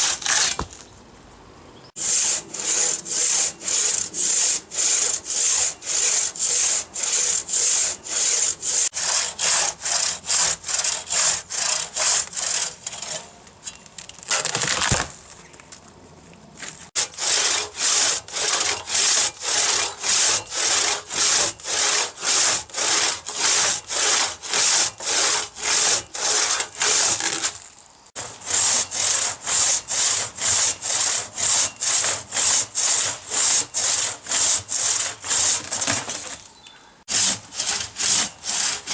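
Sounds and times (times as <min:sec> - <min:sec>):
hand saw cutting log: 0:00.0 - 0:00.7, 0:02.0 - 0:13.3, 0:16.9 - 0:27.6, 0:28.2 - 0:36.4, 0:37.1 - 0:38.9.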